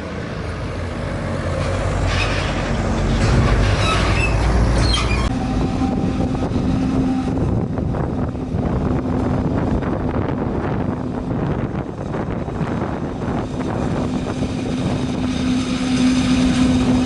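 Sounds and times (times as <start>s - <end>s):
farm machinery engines droning: 0.0s - 17.0s
deep rumble: 1.6s - 17.0s.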